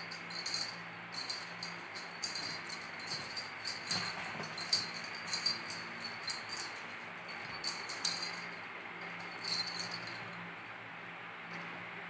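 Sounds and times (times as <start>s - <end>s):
small bell jingling: 0.0s - 10.4s.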